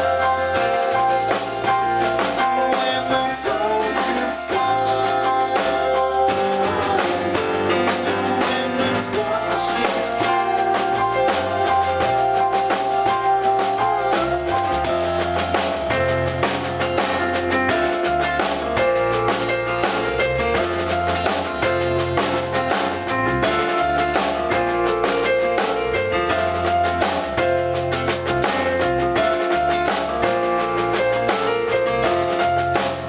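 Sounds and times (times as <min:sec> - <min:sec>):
bass guitar: 0:00.0 - 0:33.0
drum kit beat: 0:00.0 - 0:33.0
electric guitar: 0:00.0 - 0:33.0
sustained keyboard chords: 0:00.0 - 0:33.0.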